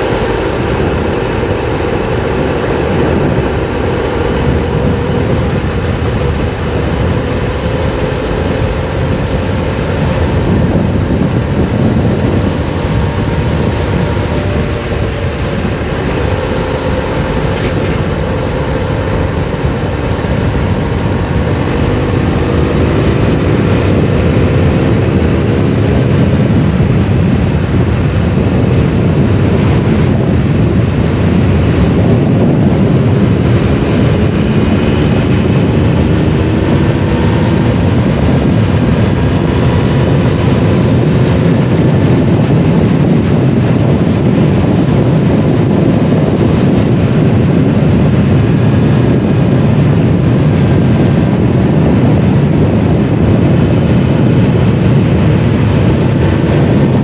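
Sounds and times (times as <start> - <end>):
motorcycle engine accelerating: 0.0 - 57.0
wind rush on microphone: 0.0 - 57.0.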